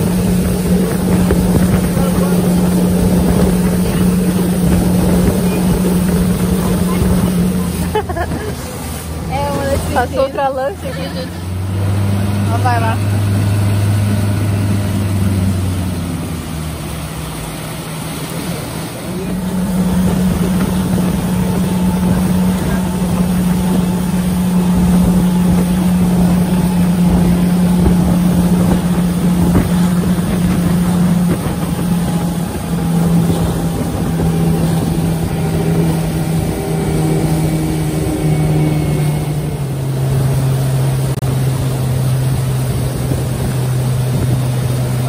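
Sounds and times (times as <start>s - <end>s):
motorboat engine running: 0.0s - 45.0s
water rushing past hull: 0.0s - 45.0s.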